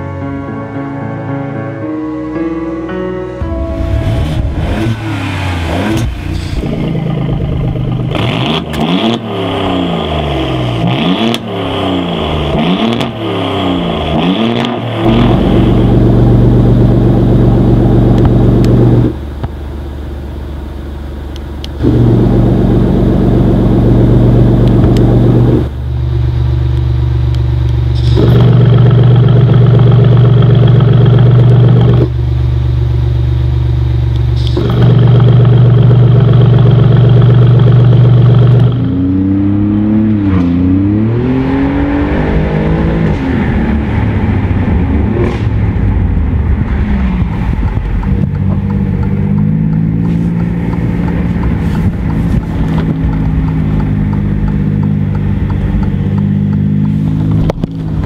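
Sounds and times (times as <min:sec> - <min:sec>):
car engine revving through exhaust: 0:03.7 - 0:58.0.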